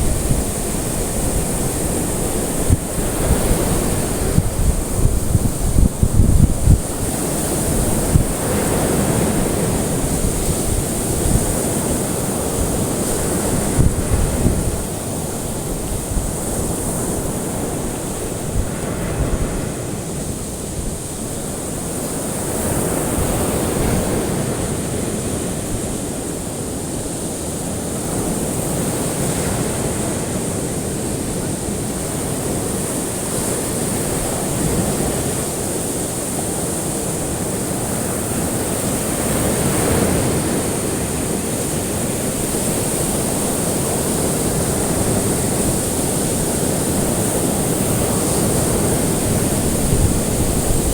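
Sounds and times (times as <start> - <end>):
ocean waves washing on shore: 0.0 - 50.9.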